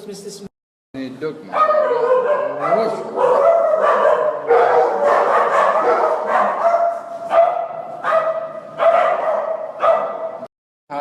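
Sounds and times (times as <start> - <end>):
dogs barking: 1.5 - 10.5.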